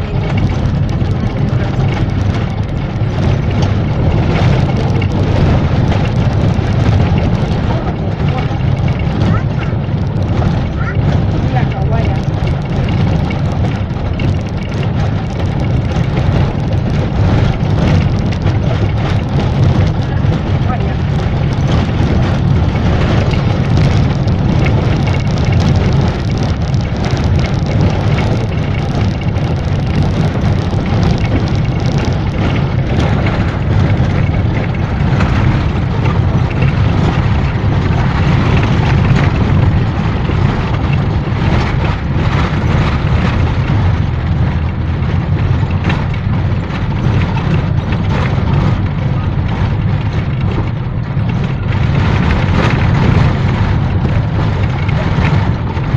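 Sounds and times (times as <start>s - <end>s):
minibus engine and road noise: 0.0s - 55.9s.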